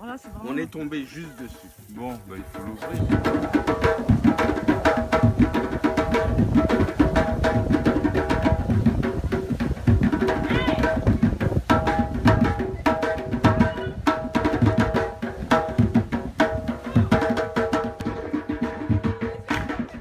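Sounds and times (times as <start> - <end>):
percussion music with steady beat: 0.0 - 20.0.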